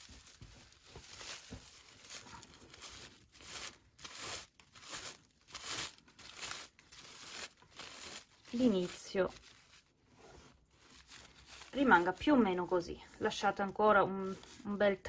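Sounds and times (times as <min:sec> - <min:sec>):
raffia yarn rustling: 0:00.0 - 0:15.0.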